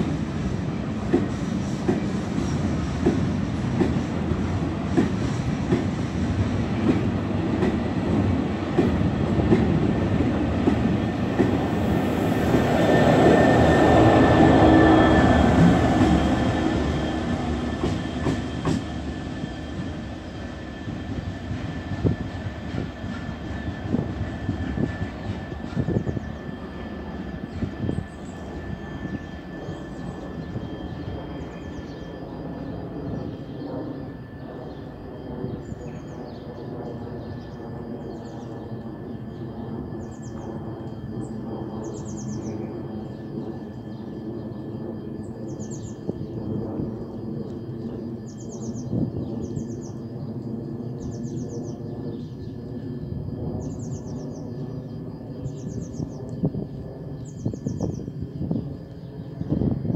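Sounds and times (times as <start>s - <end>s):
diesel locomotive engines running: 0.0s - 59.9s.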